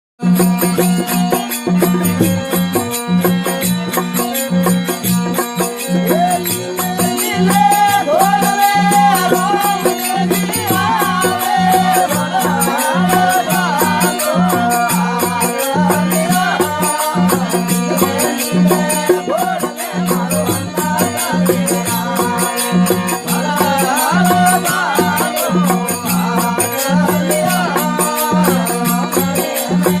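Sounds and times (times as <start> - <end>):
folk devotional music: 0.2 - 30.0.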